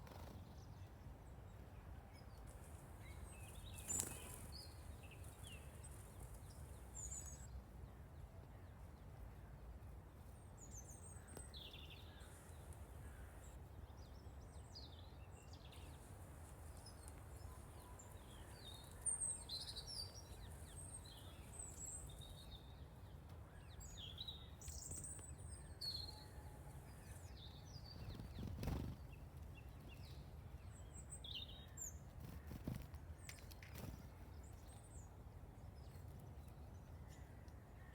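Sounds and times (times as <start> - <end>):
songbirds chirping: 0.0 - 37.9.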